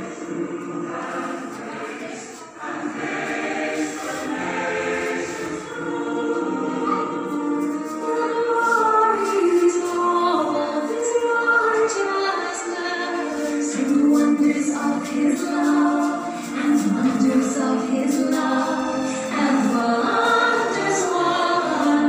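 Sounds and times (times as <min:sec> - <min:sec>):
dance music with singing: 0:00.0 - 0:22.0.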